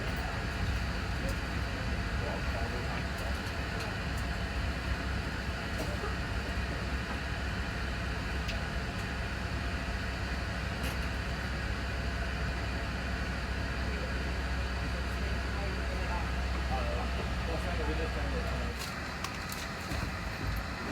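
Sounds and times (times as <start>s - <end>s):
train coach running rumble: 0.0s - 20.9s.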